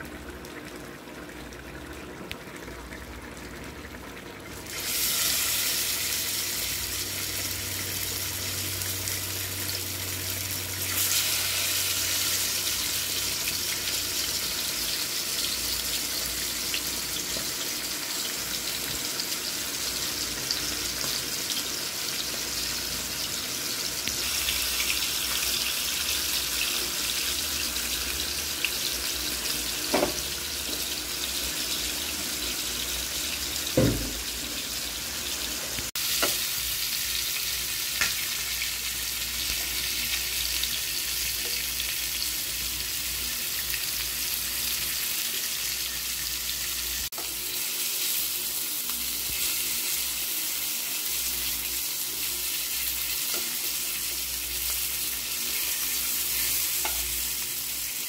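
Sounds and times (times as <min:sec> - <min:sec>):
meat sizzling in hot oil: 0:03.9 - 0:58.0.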